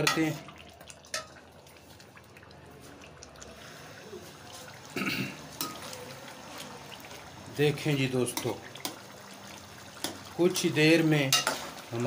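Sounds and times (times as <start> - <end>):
food simmering with quiet bubbling: 0.0 - 12.0.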